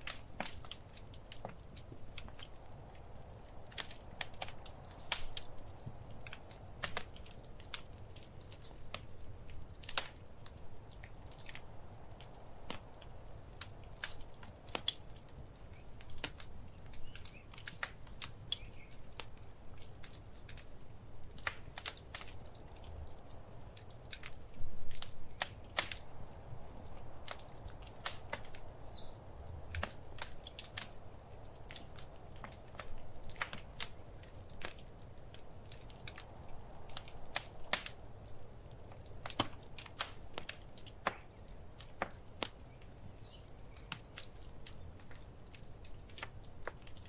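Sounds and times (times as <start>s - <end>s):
low steady fire rumble: 0.0s - 47.0s
wood fire crackling: 0.0s - 47.0s.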